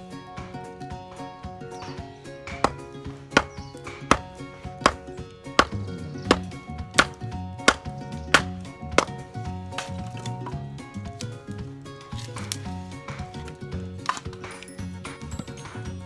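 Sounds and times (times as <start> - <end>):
background music: 0.0 - 16.0
wood being chopped: 1.7 - 11.4, 12.0 - 15.3.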